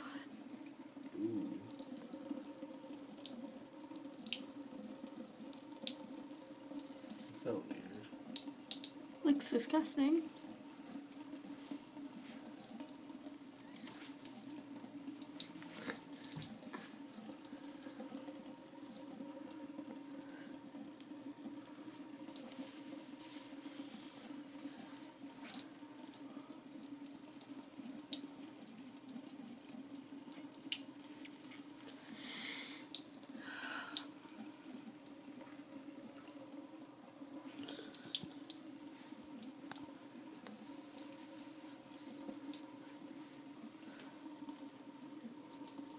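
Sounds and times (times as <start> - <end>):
tap water running into sink: 0.0 - 45.9.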